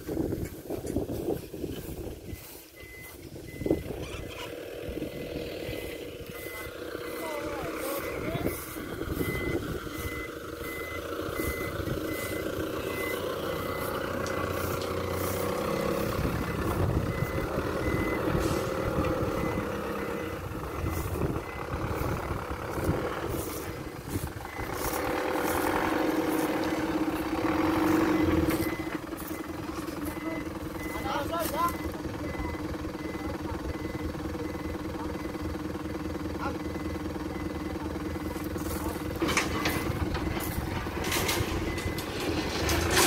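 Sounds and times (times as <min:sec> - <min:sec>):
diesel truck engine running: 0:00.0 - 0:43.0
reversing alarm beeping: 0:02.3 - 0:43.0.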